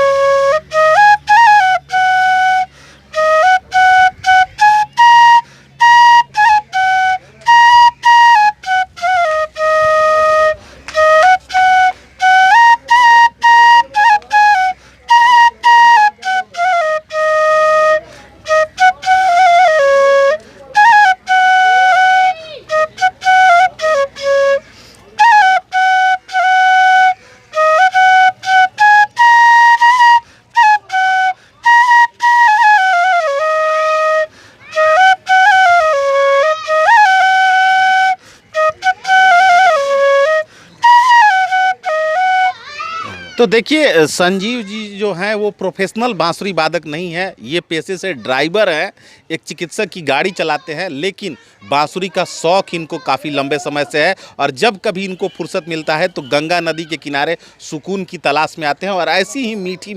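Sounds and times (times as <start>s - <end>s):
bamboo flute melody: 0.0s - 45.3s, 50.2s - 59.9s.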